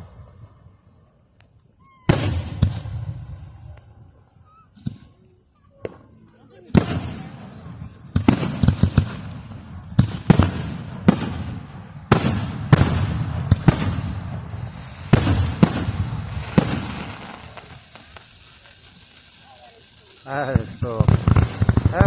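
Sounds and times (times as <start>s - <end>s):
fireworks bangs and crackle: 1.8s - 5.2s, 5.8s - 22.0s.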